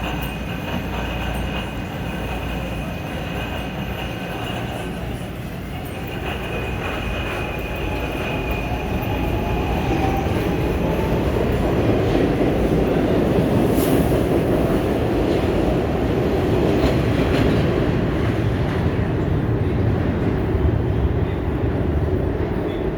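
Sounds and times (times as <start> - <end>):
railcar running gear rumble: 0.0 - 22.9.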